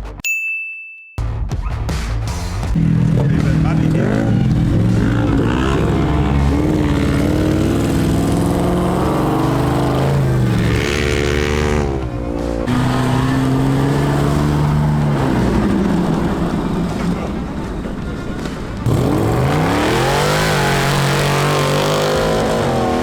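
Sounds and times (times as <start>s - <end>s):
off-road vehicle engine revving: 2.5s - 23.0s.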